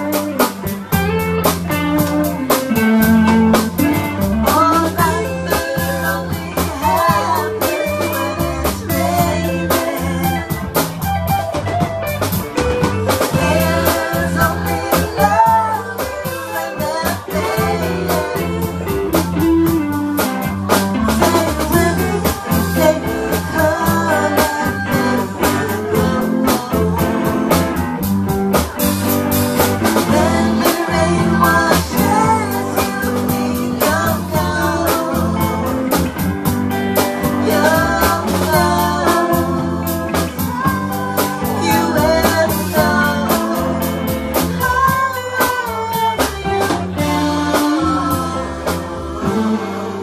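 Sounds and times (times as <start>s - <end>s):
drum kit beat: 0.0s - 50.0s
guitar: 0.0s - 50.0s
woman singing into microphone: 2.2s - 11.1s, 13.1s - 27.9s, 29.6s - 50.0s.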